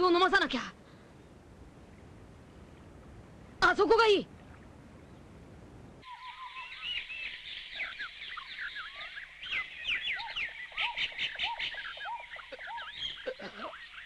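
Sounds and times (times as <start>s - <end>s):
tropical birds chirping: 0.0s - 3.6s, 4.3s - 14.0s.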